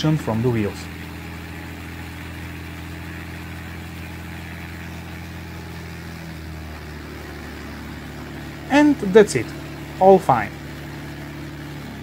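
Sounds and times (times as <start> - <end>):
aircraft engine and propeller: 0.0 - 12.0.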